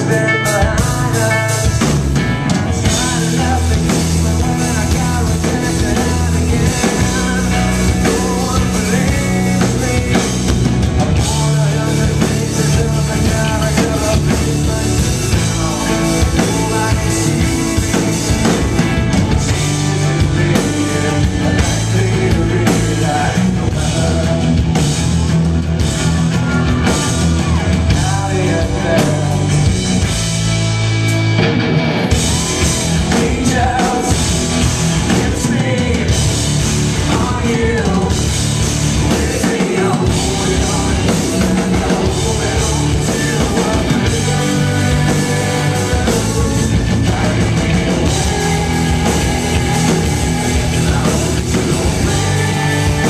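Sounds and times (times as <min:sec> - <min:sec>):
person singing: 0:00.0 - 0:24.9, 0:26.0 - 0:29.8, 0:32.2 - 0:36.4, 0:37.0 - 0:38.4, 0:39.0 - 0:53.0
bass guitar: 0:00.0 - 0:53.0
drum kit: 0:00.0 - 0:53.0
electric guitar: 0:00.0 - 0:53.0.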